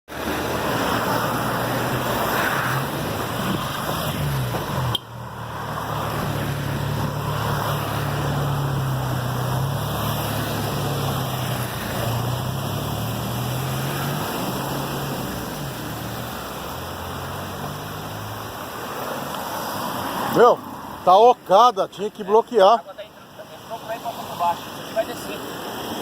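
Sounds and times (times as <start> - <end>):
steady rushing noise: 0.1 - 26.0.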